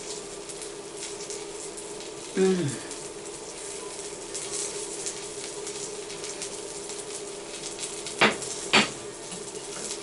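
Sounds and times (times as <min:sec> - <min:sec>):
omelette sizzling in a frying pan: 0:00.0 - 0:10.0.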